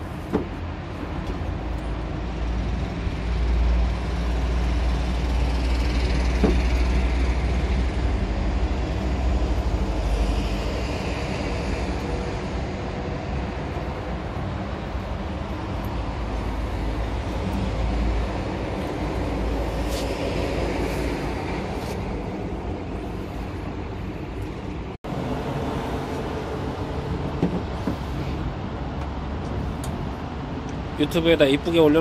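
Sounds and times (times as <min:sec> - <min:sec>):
heavy vehicle engines and traffic: 0:00.0 - 0:32.0.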